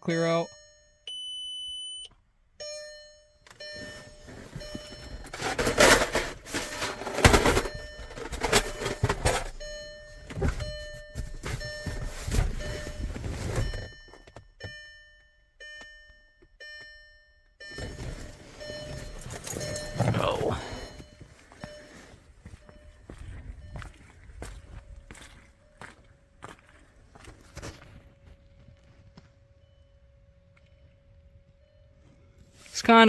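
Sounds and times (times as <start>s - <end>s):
car warning chime beeping: 0.0s - 26.4s, 29.4s - 33.0s.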